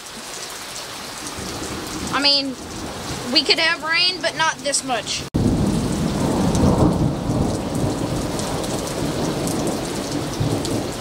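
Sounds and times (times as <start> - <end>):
heavy rain: 0.0 - 11.0
thunder rumbling: 1.4 - 11.0.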